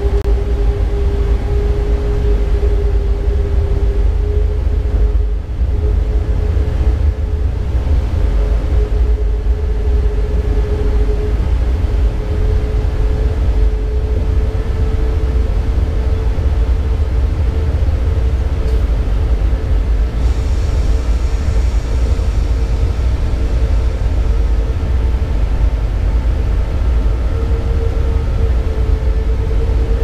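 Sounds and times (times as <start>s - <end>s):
locomotive low rumble: 0.0s - 30.0s
locomotive whine: 0.0s - 30.0s.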